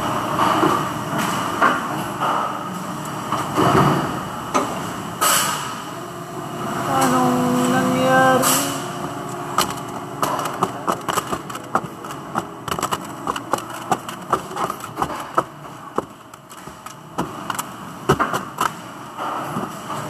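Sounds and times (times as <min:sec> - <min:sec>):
factory machinery hum: 0:00.0 - 0:20.0.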